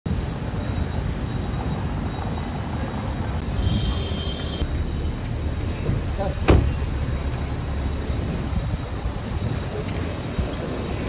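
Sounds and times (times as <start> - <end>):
outdoor noise: 0.0 - 11.0
car engine rumbling: 1.9 - 11.0.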